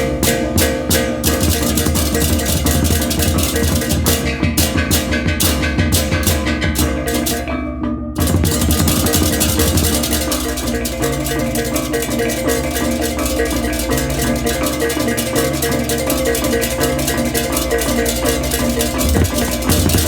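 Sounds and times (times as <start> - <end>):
clashing cymbals: 0.0 - 7.6, 8.2 - 20.0.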